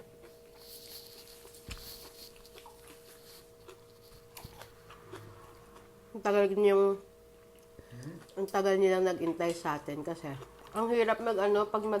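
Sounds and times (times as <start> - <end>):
soft chewing: 0.0 - 6.0, 7.4 - 12.0
faint steady hum: 0.0 - 12.0.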